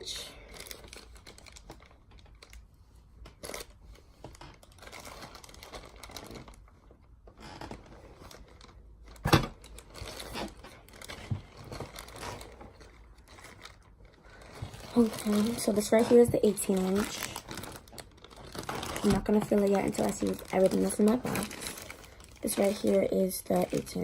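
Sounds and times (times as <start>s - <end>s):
packaging rustling and crinkling: 0.4s - 24.0s.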